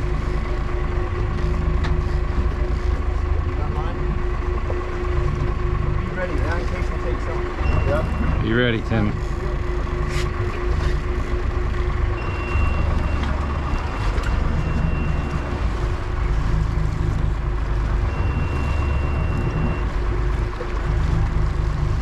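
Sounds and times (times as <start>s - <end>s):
boat engine running: 0.0s - 22.0s
wind and water noise: 0.0s - 22.0s.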